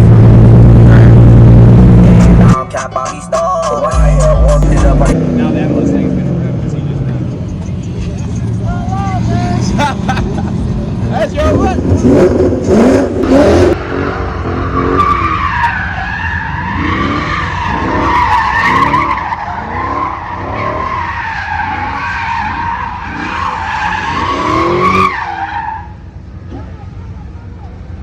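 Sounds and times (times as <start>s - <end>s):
tires squealing: 0.0s - 26.8s
car engine rising and falling: 0.0s - 27.0s.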